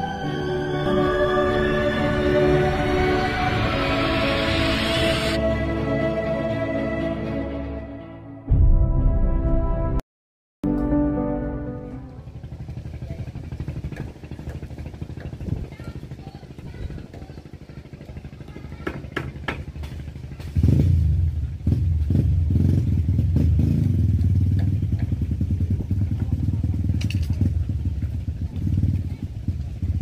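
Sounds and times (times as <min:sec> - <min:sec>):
engine throbbing: 0:00.0 - 0:07.6, 0:11.3 - 0:30.0.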